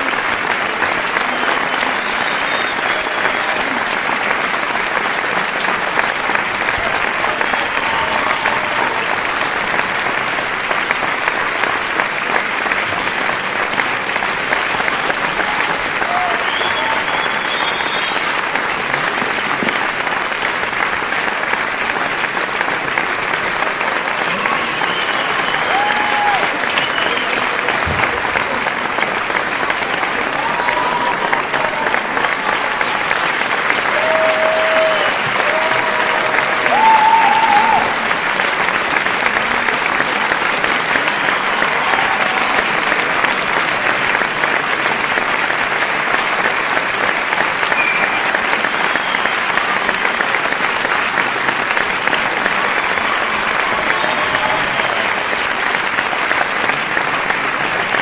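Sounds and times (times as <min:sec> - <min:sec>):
crowd applauding: 0:00.0 - 0:58.0.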